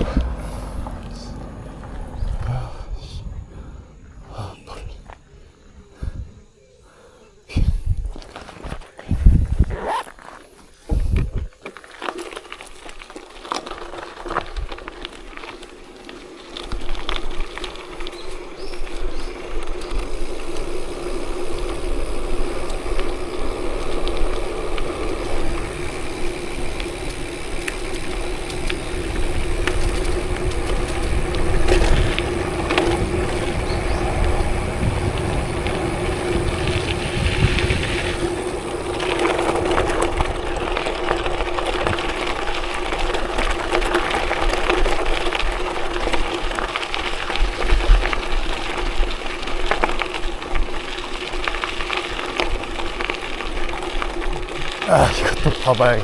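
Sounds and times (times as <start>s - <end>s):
tyres crunching over gravel: 0.0s - 3.4s, 8.0s - 56.0s.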